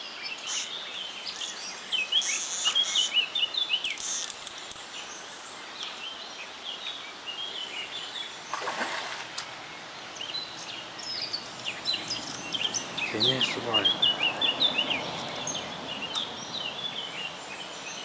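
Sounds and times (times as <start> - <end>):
small birds chirping: 0.0 - 18.0
steady outdoor hiss: 0.0 - 18.0.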